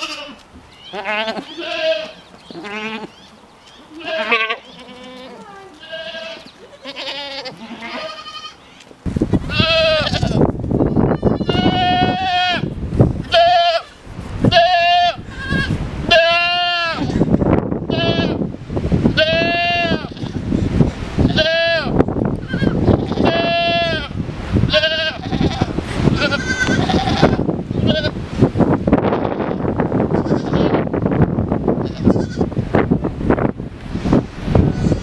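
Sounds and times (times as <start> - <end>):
goats bleating: 0.0 - 8.8, 9.5 - 17.3, 17.9 - 18.4, 19.2 - 20.5, 21.2 - 28.2, 29.2 - 30.9, 31.8 - 32.5, 34.6 - 35.0.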